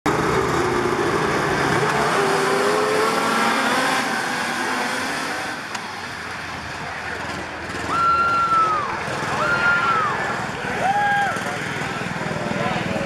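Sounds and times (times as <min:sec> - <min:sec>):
snowmobile engines at full throttle: 0:00.1 - 0:13.0.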